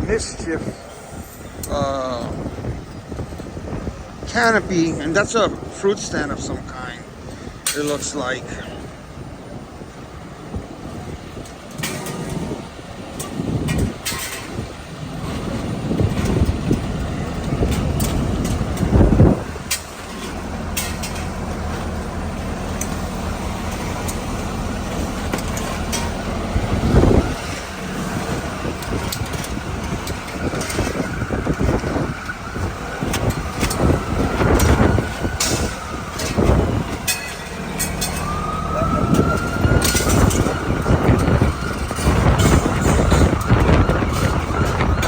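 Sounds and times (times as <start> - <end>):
fire truck engines idling: 0.0 - 45.0
high whining tones: 0.0 - 45.0
metal pipes clanking: 0.0 - 45.0
street noise: 0.0 - 45.0.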